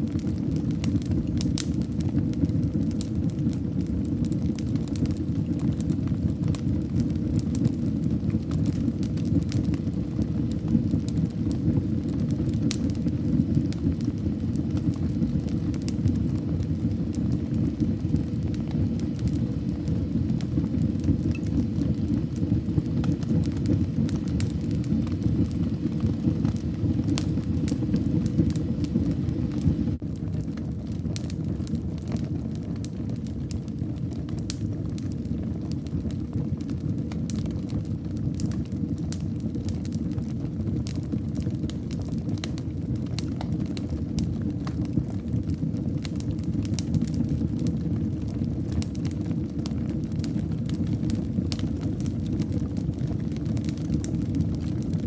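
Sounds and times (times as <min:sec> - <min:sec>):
fire burning in fireplace: 0:00.0 - 0:55.0
fire crackles and pops: 0:00.0 - 0:55.0.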